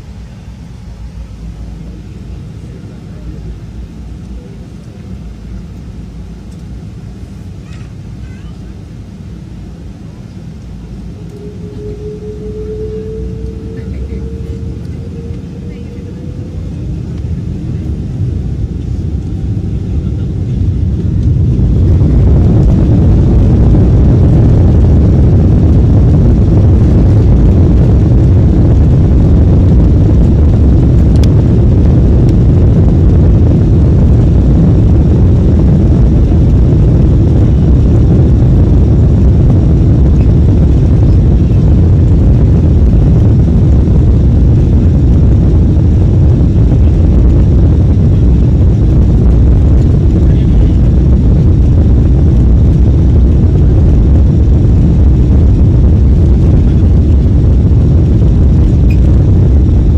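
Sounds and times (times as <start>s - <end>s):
jet engines spooling up: 9.1s - 59.9s.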